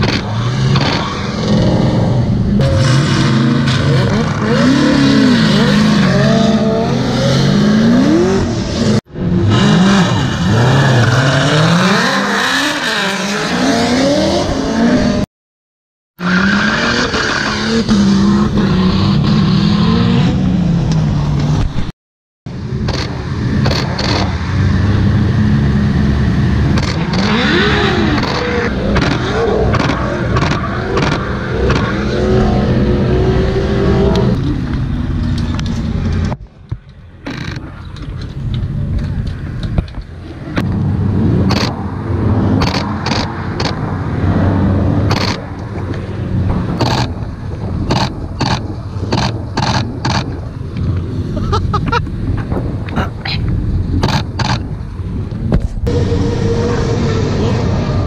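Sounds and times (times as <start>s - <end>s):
car engines revving hard: 0.0s - 15.3s, 16.2s - 21.8s, 22.5s - 36.4s, 37.2s - 58.0s.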